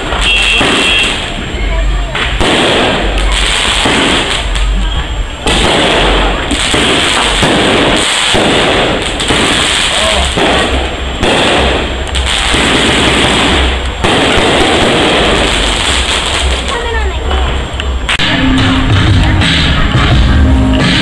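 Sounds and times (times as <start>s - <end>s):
fireworks crackling bursts: 0.0s - 21.0s.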